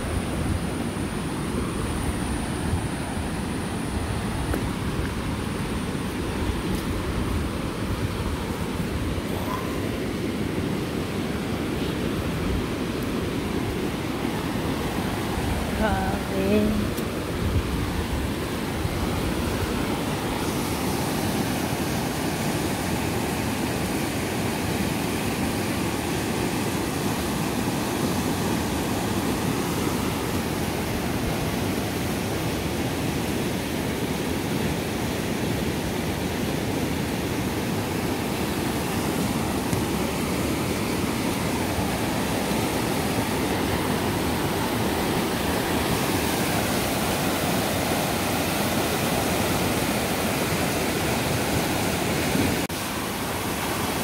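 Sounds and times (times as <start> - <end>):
fast-flowing floodwater rushing: 0.0 - 54.0.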